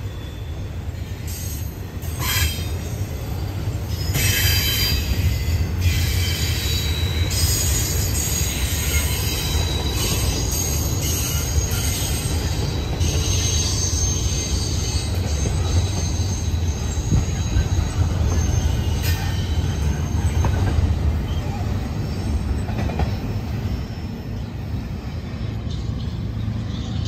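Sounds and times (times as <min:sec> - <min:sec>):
high wheel squeal: 0:00.0 - 0:24.6
freight train wheels rumbling: 0:00.0 - 0:27.0.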